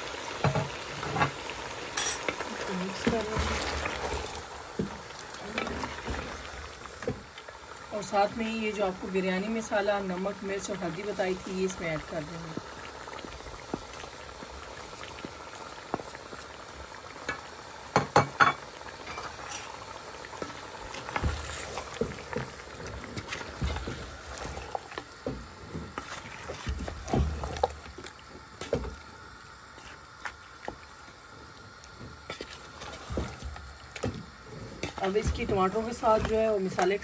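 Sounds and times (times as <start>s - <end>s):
food sizzling and bubbling in pot: 0.0s - 37.0s.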